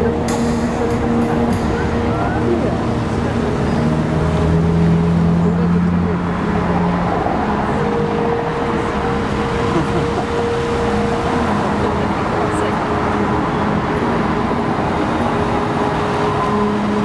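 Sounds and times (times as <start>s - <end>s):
crowd chatter: 0.0s - 17.0s
fountain water jets spraying: 0.0s - 17.0s
street traffic: 0.0s - 17.0s.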